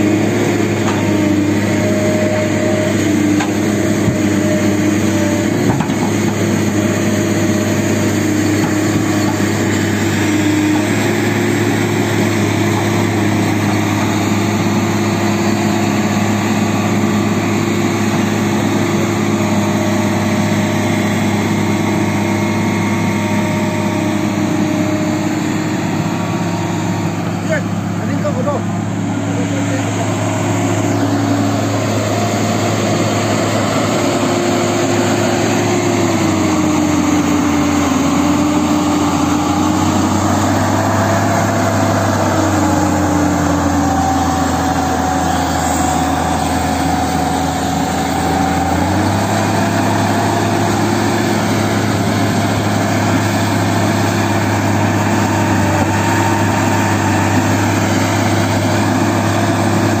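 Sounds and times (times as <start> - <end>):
excavator diesel engine running: 0.0 - 60.0
hydraulic whine: 0.0 - 60.0.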